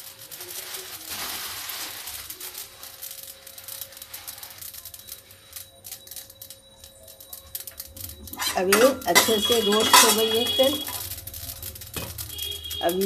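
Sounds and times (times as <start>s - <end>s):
seeds dry-roasting hiss: 0.0s - 6.2s, 8.6s - 13.0s
seeds popping against steel: 0.0s - 13.0s.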